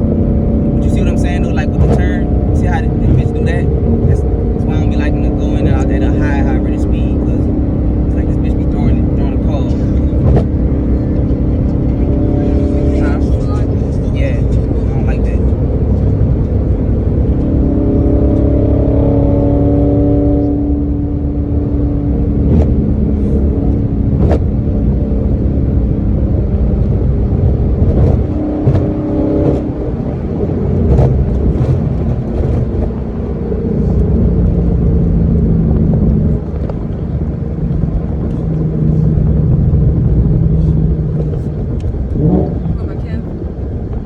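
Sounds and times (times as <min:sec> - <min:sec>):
car engine and exhaust: 0:00.0 - 0:44.0.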